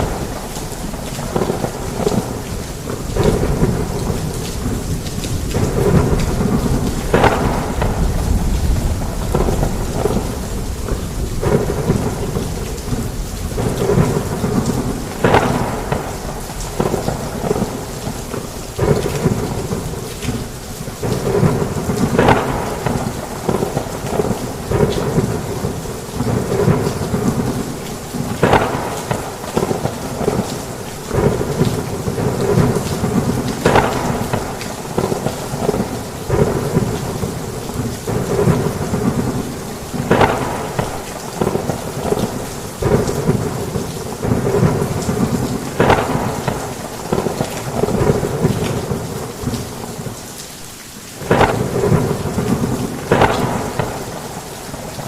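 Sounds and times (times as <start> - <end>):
low thunder rumbling: 0.0 - 50.2, 51.2 - 55.0
sharp thunder claps: 0.0 - 50.2, 51.2 - 55.0
heavy rain: 0.0 - 55.0.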